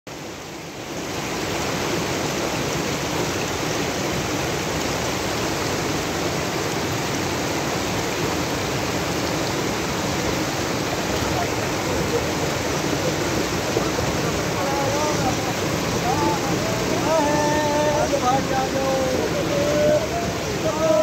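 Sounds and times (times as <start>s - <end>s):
stream rushing over stones: 0.1s - 21.0s.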